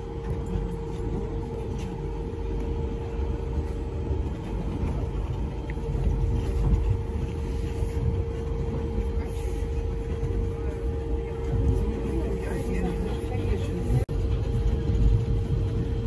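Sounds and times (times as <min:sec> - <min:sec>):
monorail low rumble: 0:00.0 - 0:16.0
monorail whine: 0:00.0 - 0:16.0.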